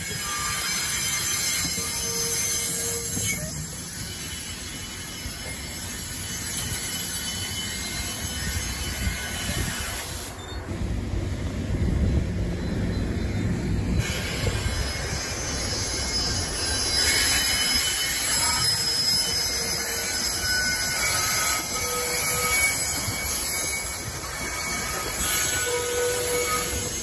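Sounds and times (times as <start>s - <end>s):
high wheel squeal: 0.0s - 10.7s, 12.5s - 27.0s
train wheels rumbling on rails: 0.0s - 27.0s.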